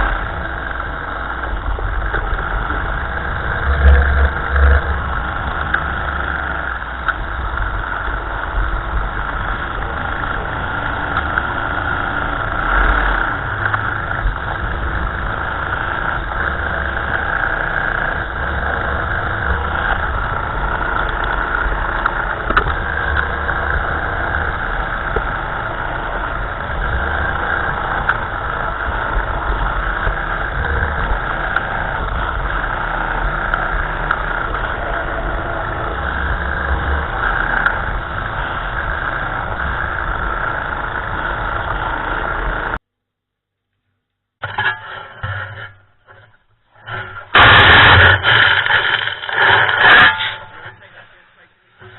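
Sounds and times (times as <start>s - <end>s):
tractor engine running: 0.0s - 42.9s, 44.4s - 51.9s.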